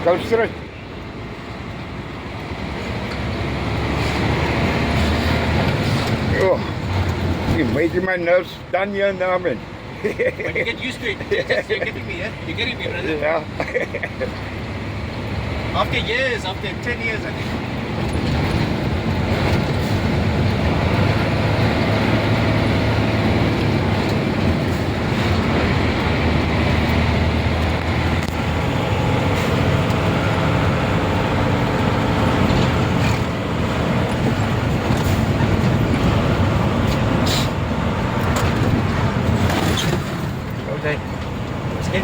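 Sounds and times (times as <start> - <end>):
road noise: 0.0 - 42.0
truck diesel engine running: 0.0 - 42.0.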